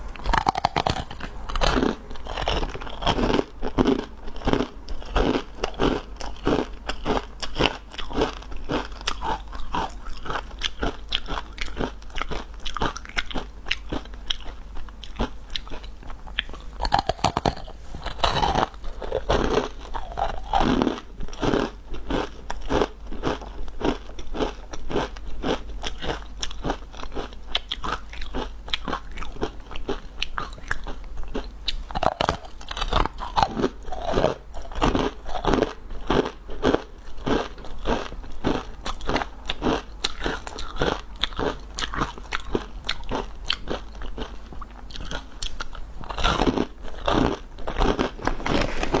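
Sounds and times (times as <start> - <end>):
crunching crisp bar: 0.1 - 49.0.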